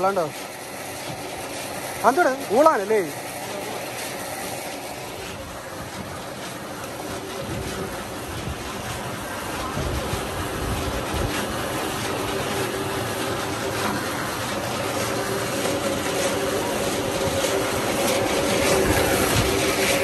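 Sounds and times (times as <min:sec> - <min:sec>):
constant hiss: 0:00.0 - 0:20.0
motor engine running: 0:00.0 - 0:20.0.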